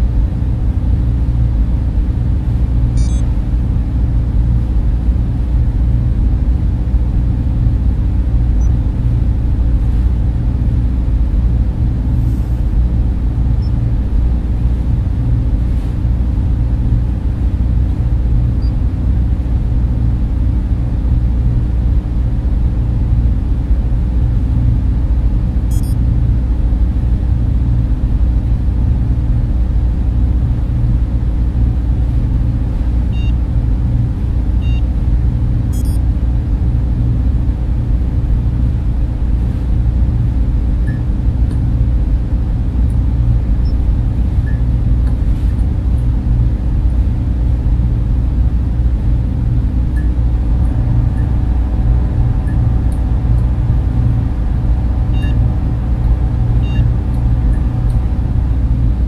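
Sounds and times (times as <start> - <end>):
low sci-fi ambience drone: 0.0 - 59.0.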